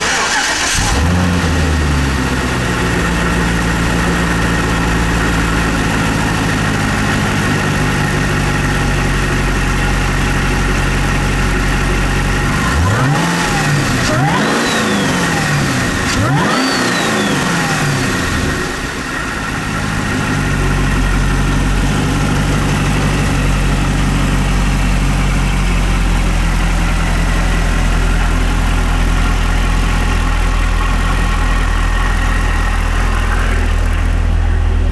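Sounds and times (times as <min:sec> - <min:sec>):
car engine idling with whine: 0:00.0 - 0:34.9
engine revving: 0:00.0 - 0:34.9.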